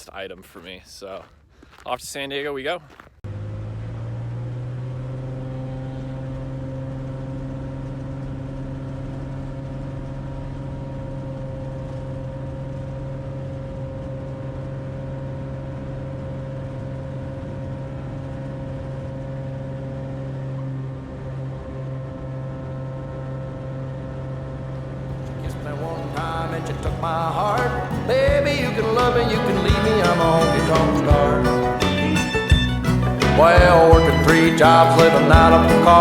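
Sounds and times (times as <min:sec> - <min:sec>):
propeller plane engine droning: 0:03.3 - 0:36.0.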